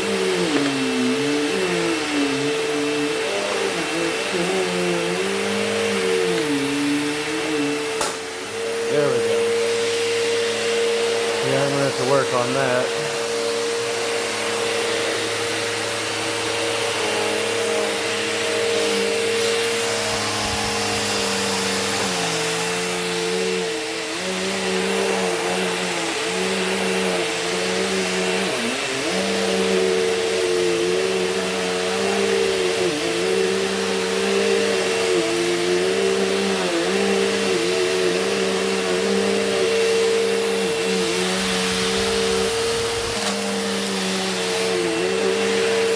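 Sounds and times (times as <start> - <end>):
vacuum cleaner motor hum: 0.0 - 45.9.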